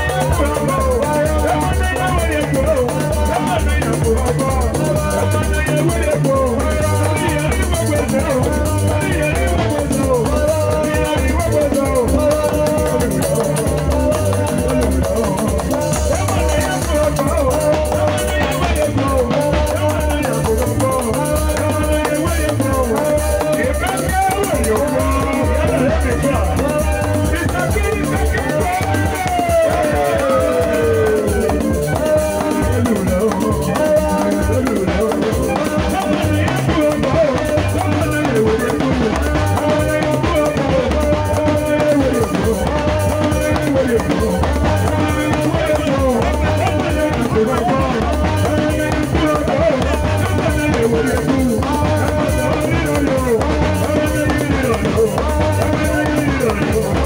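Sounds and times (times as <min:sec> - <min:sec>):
band music with drums and guitar: 0:00.0 - 0:57.0.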